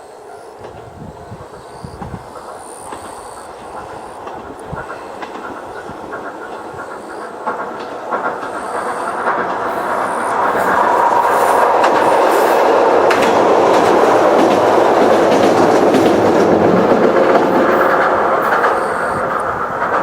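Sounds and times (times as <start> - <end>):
electric train passing: 0.0 - 20.0
wheels clicking over rail joints: 0.6 - 20.0.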